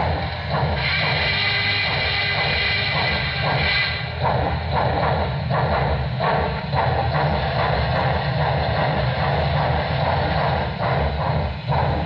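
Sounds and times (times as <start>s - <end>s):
deep continuous rumble: 0.0s - 12.0s
steam locomotive exhaust chuffs: 0.0s - 12.0s.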